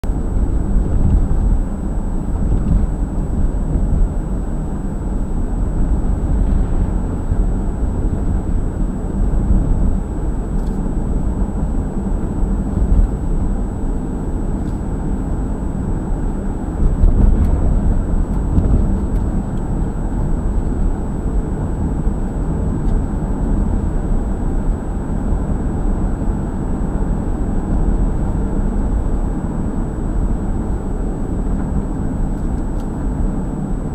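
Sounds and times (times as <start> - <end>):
car engine rumble: 0.0 - 33.9.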